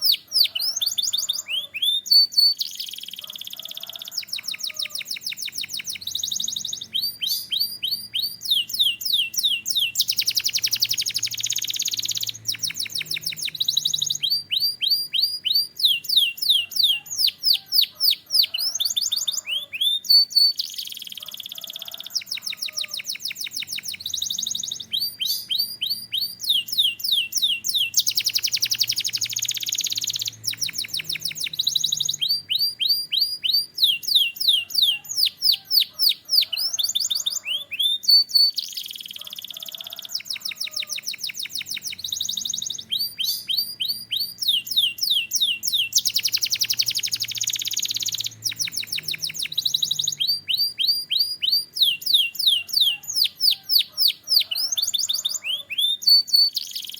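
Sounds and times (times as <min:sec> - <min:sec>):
canary singing in trills: 0:00.0 - 0:56.9.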